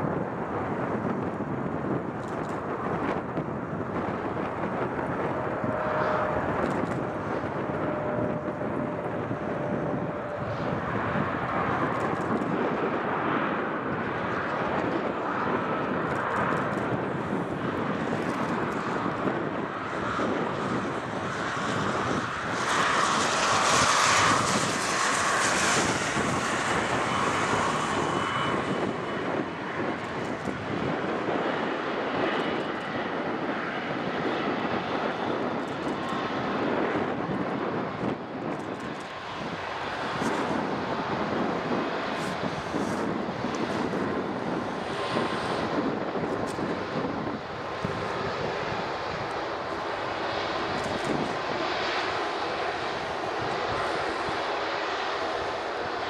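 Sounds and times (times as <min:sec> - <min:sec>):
jet roar and hiss: 0:00.0 - 0:56.0.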